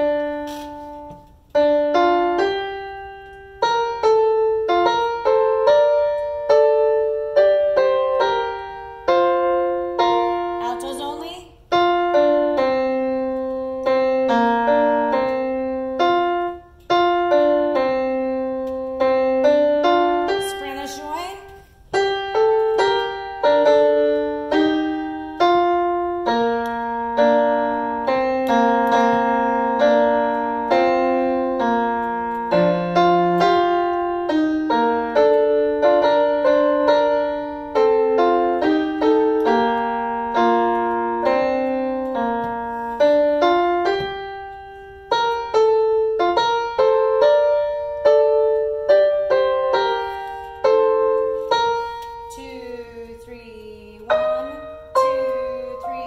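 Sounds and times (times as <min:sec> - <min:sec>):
piano notes and chords: 0:00.0 - 0:56.0.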